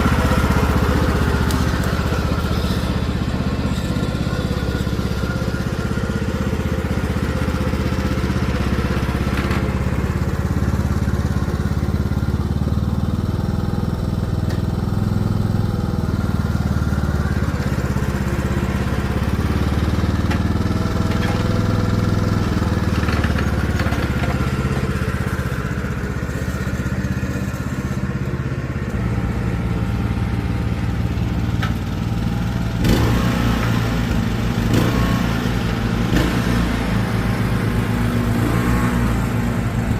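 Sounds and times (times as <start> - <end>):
riding mower engine running: 0.0 - 39.9.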